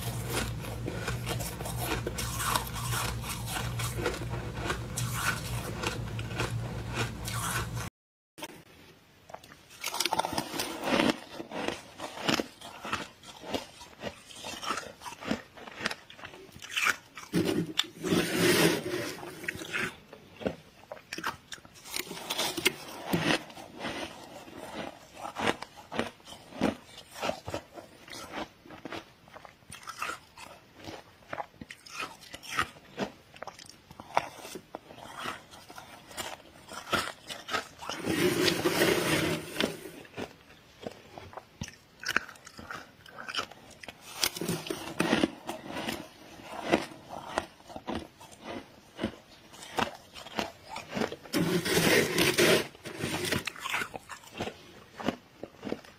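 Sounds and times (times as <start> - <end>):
freezer frost crunching: 0.0 - 7.9, 9.3 - 55.9.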